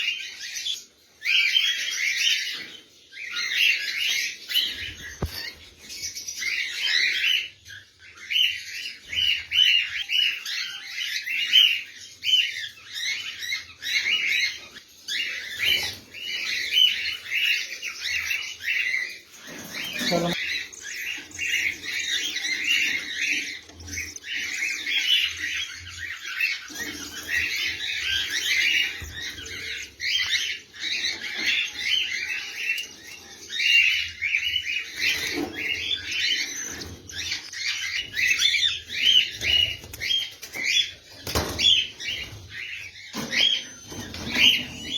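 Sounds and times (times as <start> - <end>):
lovebirds chattering and chirping: 0.0 - 44.9.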